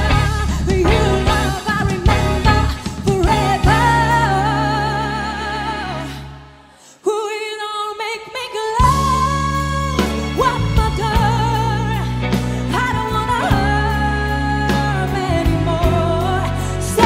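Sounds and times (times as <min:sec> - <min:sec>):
live band playing: 0:00.0 - 0:06.7, 0:08.8 - 0:17.0
woman singing: 0:00.0 - 0:17.0.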